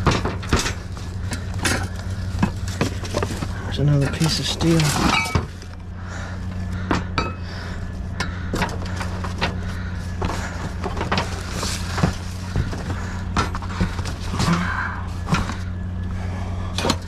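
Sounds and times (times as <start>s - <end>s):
junk clattering in a dumpster: 0.0s - 17.0s
steady low hum: 0.0s - 17.0s.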